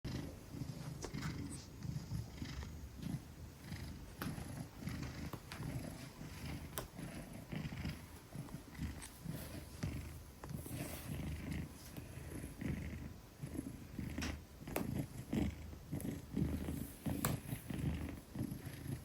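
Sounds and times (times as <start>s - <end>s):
cat purring deeply: 0.1s - 19.0s.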